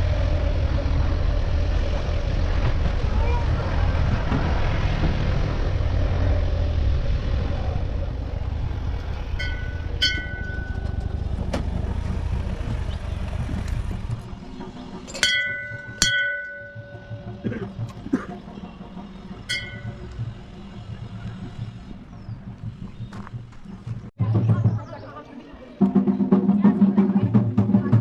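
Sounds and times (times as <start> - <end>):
rushing wind: 0.0 - 25.1
motorcycle engine rumble: 0.0 - 25.2.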